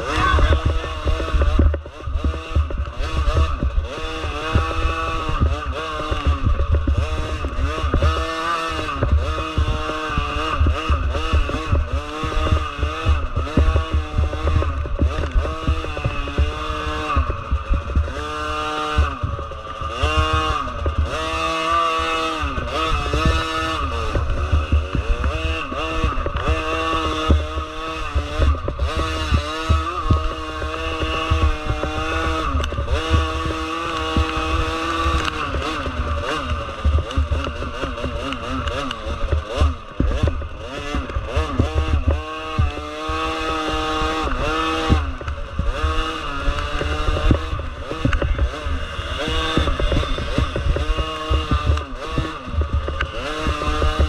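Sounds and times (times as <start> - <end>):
motorcycle engine revving: 0.0 - 54.0
wind rumbling on microphone: 0.0 - 54.0.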